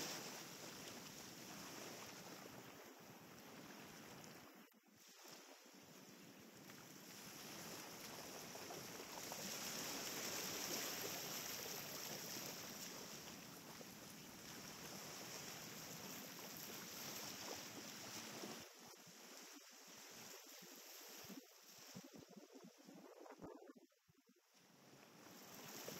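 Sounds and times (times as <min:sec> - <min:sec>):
small waves on sandy beach: 0:00.0 - 0:25.9.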